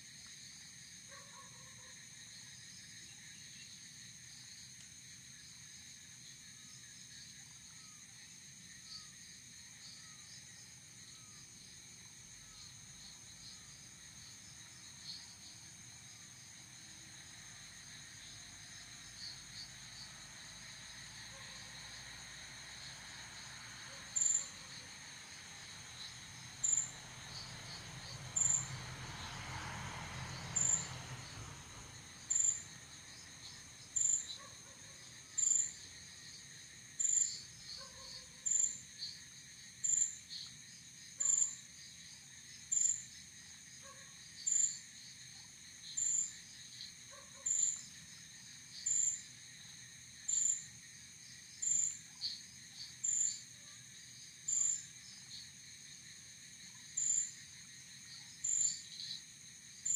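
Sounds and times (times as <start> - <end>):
crickets trilling: 0.0 - 59.9
loud high cricket chirp: 0.0 - 59.9.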